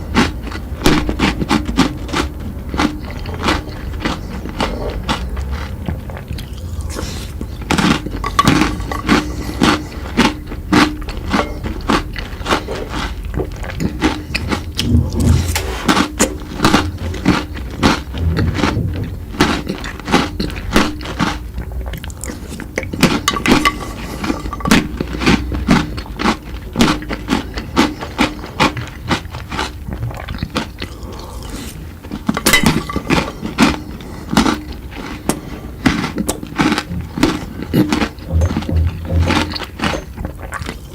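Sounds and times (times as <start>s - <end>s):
person chewing crunchy sweets: 0.0s - 40.9s.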